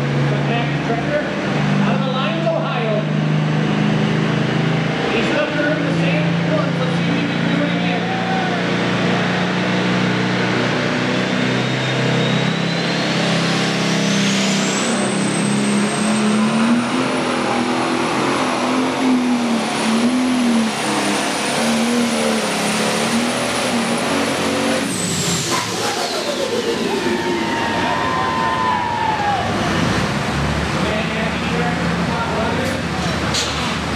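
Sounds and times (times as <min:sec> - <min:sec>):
turbocharger whine: 0:00.0 - 0:32.5
diesel engine at full throttle: 0:00.0 - 0:33.9.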